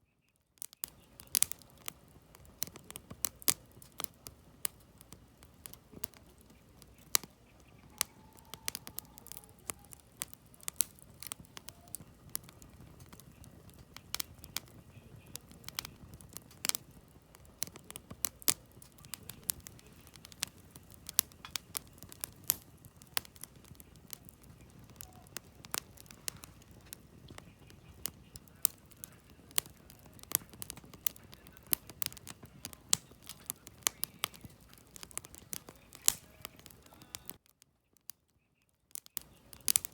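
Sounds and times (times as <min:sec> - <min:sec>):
low rumble of burning fire: 0:00.1 - 0:39.9
campfire crackling and popping: 0:00.2 - 0:39.9.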